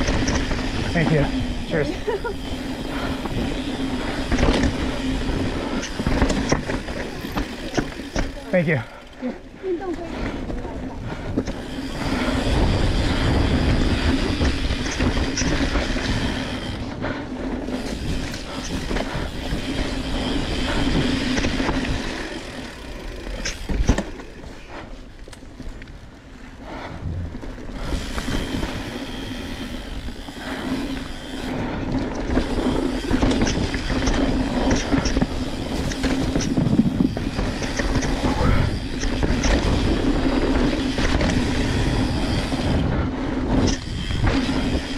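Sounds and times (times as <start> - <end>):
bike rattling: 0.0 - 44.9
bike tyres on dirt and rocks: 0.0 - 44.9.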